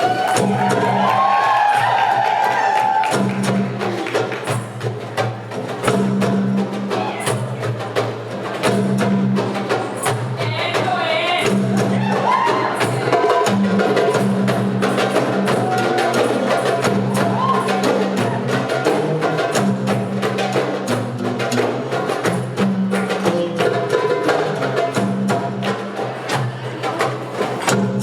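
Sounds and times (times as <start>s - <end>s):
hand drums playing fast rhythm: 0.0s - 28.0s.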